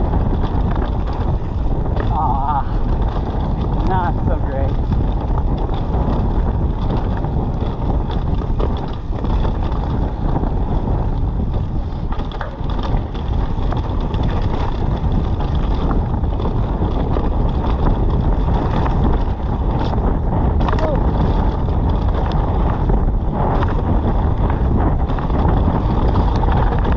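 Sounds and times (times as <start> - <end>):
bike knocks and rattles: 0.0 - 26.9
tyres rumbling on wet trail: 0.0 - 26.9
wind buffeting microphone: 0.0 - 26.9.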